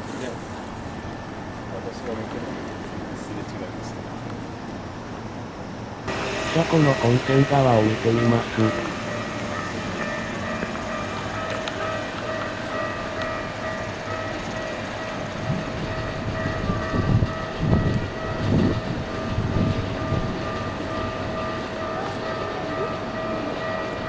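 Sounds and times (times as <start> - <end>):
electric train whine: 0.0 - 24.0.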